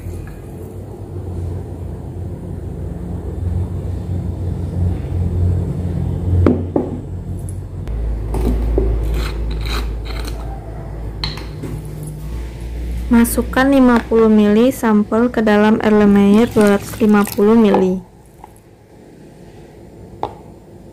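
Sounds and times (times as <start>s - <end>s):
low hum: 0.0s - 20.9s.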